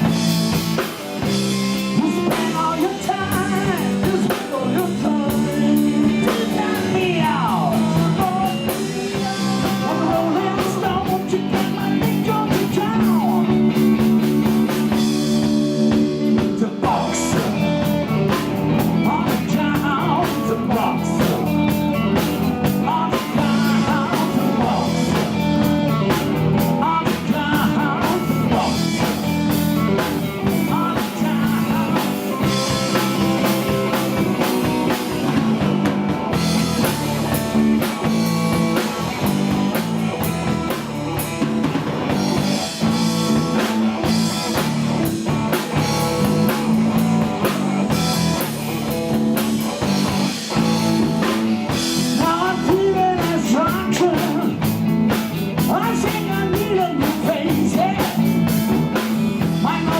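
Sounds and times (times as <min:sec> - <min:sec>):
blues-rock band playing: 0:00.0 - 0:59.9
electric guitar: 0:00.0 - 0:59.9.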